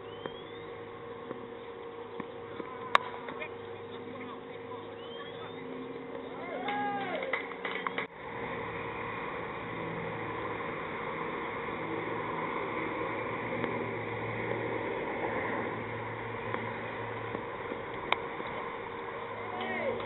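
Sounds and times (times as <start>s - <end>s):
low steady hum: 0.0s - 20.0s
outdoor background hiss: 0.0s - 20.0s.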